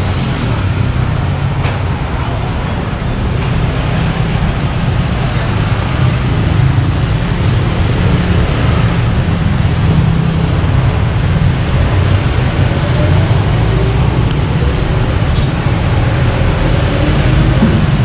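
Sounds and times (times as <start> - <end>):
motor vehicles rumbling: 0.0 - 18.0.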